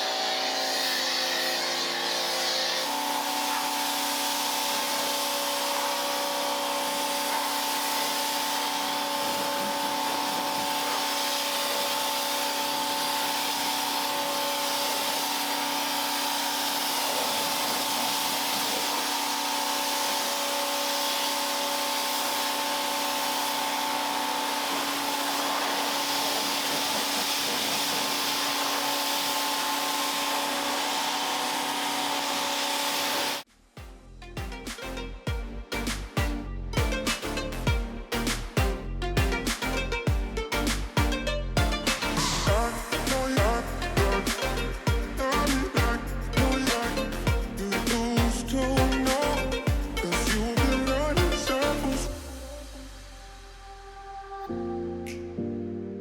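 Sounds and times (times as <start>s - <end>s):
pressure washer motor hum: 0.0s - 33.4s, 34.5s - 53.5s
water jet hissing: 0.0s - 33.5s, 41.7s - 54.0s.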